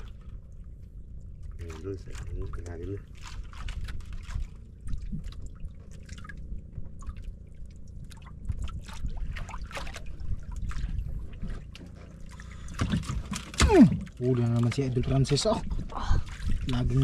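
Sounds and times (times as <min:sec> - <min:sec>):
low rumble: 0:00.0 - 0:14.2
water dripping and splashing: 0:00.0 - 0:17.0.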